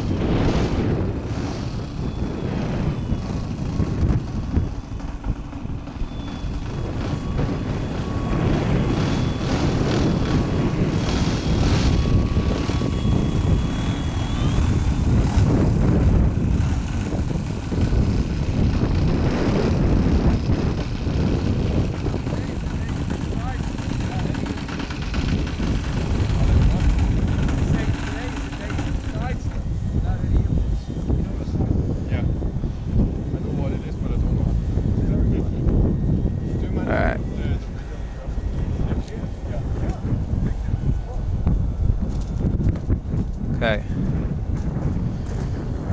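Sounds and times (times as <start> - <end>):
model plane motor whining: 0.0 - 45.9
wind buffeting microphone: 0.0 - 45.9.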